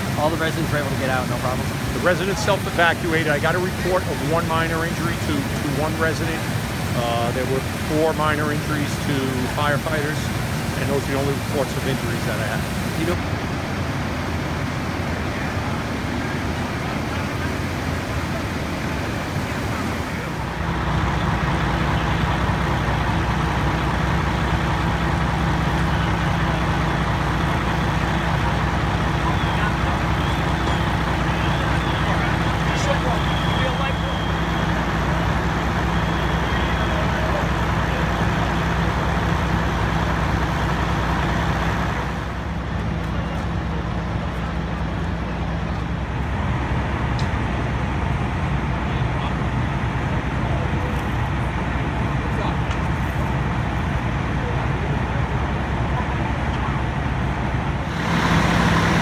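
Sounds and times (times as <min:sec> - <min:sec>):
engine drone with low hum: 0:00.0 - 0:59.0
fire truck engines running: 0:00.0 - 0:59.0.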